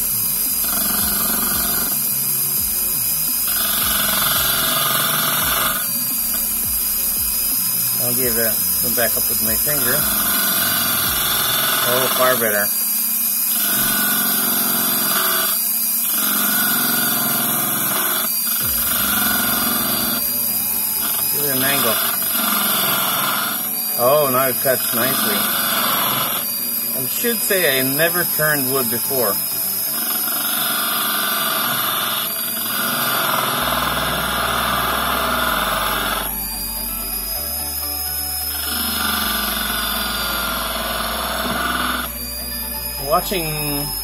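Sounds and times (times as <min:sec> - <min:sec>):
lathe motor running: 0:00.0 - 0:44.0
tool cutting spinning wood: 0:00.0 - 0:44.0.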